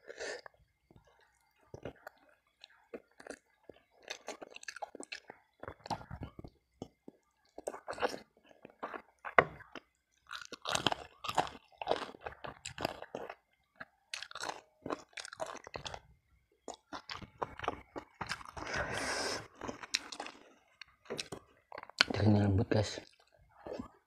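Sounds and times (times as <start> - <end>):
chewing and biting: 0.4 - 22.2.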